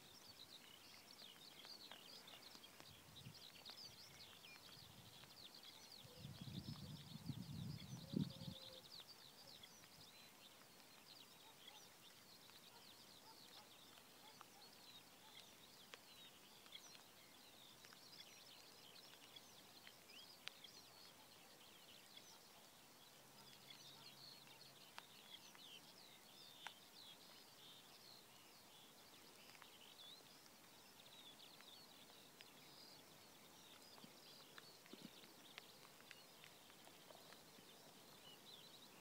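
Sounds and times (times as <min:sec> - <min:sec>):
faint bird song: 0:00.0 - 0:39.0.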